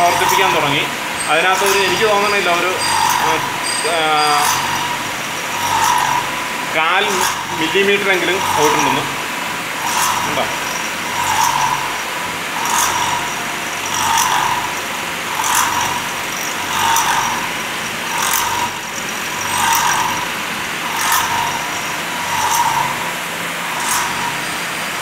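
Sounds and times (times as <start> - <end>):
milling machine cutting steel: 0.0 - 25.0.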